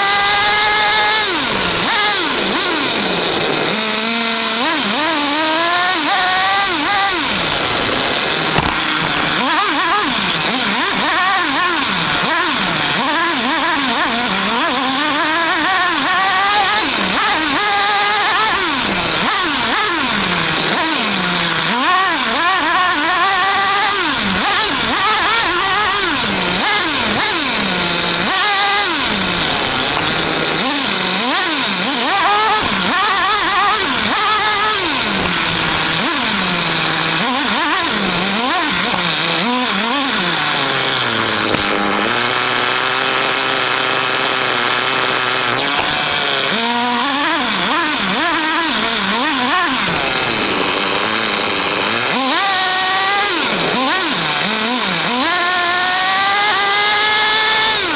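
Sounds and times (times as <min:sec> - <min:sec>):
small engine revving: 0:00.0 - 0:57.9.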